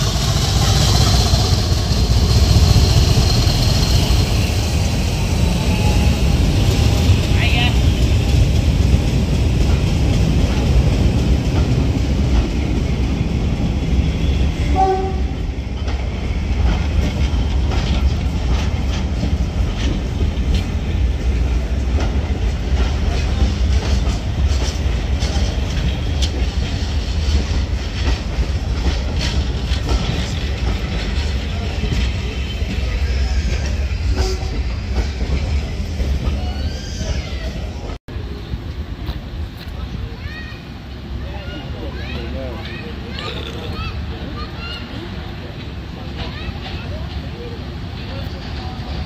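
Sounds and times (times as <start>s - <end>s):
diesel train rumbling: 0.0s - 49.0s.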